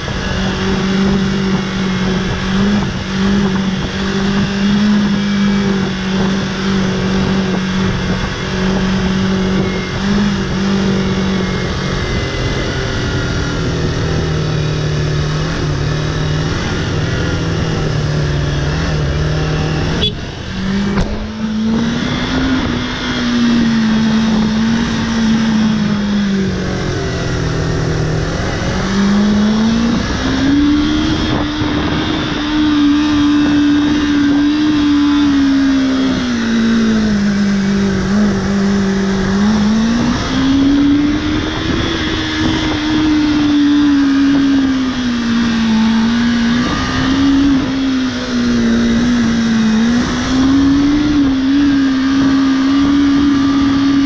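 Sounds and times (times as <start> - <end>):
motorcycle engine revving: 0.0 - 54.0
steady rushing noise: 0.0 - 54.0.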